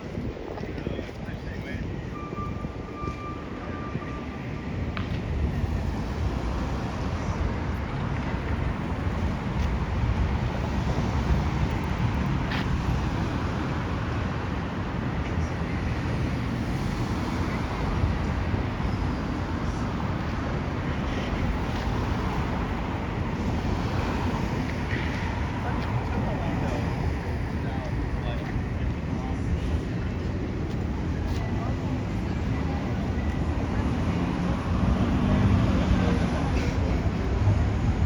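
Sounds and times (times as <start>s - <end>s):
wind buffeting microphone: 0.0s - 33.8s
city traffic rumble: 0.0s - 38.0s.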